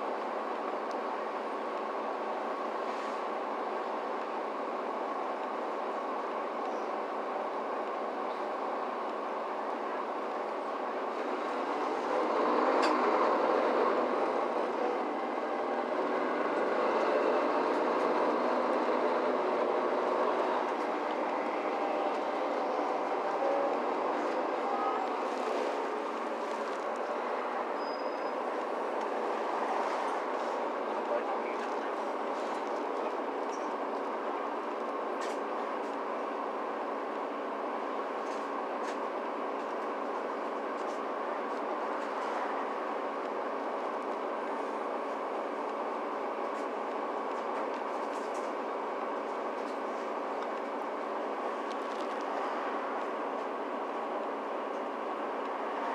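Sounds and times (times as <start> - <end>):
bus diesel engine running: 0.0 - 55.9
road and body noise: 0.1 - 55.9.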